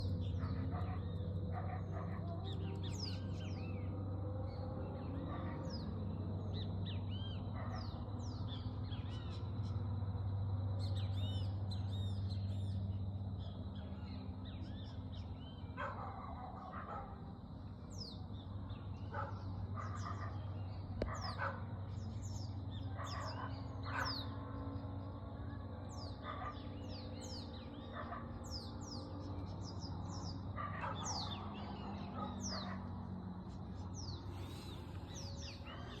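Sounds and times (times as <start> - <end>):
birds chirping: 0.0 - 36.0
steady low hum: 0.0 - 36.0.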